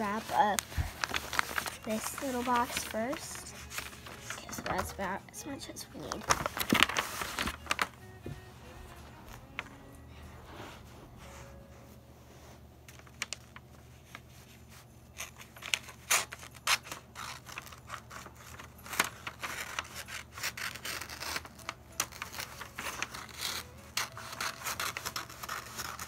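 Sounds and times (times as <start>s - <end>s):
wrapping paper crinkling: 0.0s - 11.4s, 12.8s - 26.0s.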